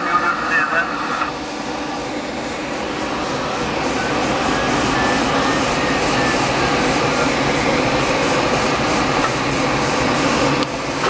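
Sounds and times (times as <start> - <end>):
rushing airflow in aircraft cockpit: 0.0 - 11.0.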